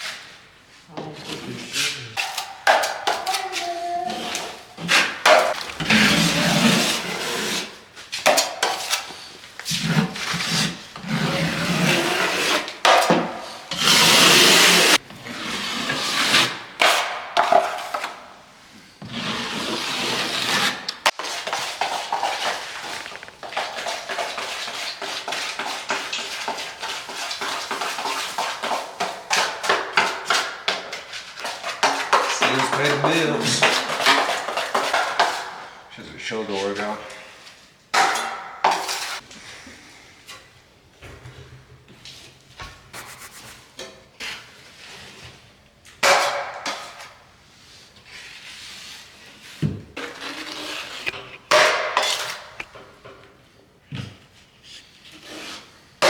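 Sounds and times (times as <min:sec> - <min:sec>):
drywall tools scraping: 0:00.0 - 0:39.3, 0:42.9 - 0:53.0, 0:54.4 - 0:56.0.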